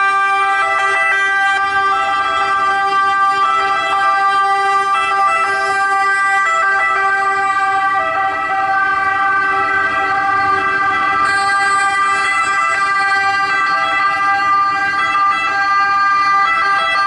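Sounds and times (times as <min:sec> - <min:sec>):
ambulance sirens and horns: 0:00.0 - 0:17.0.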